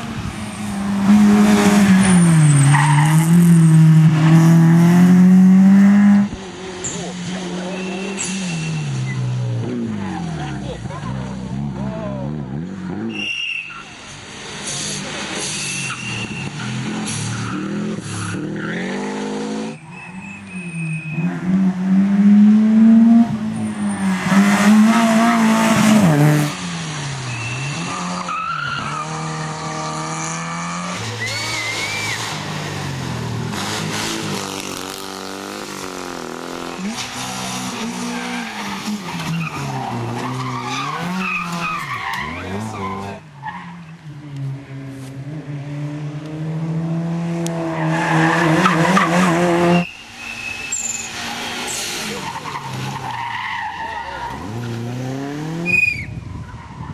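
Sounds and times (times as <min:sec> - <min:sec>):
rally car engines revving: 0:00.0 - 0:56.9.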